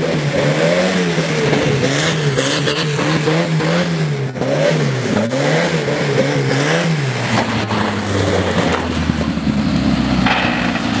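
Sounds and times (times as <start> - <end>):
tractor engine revving: 0.0 - 11.0.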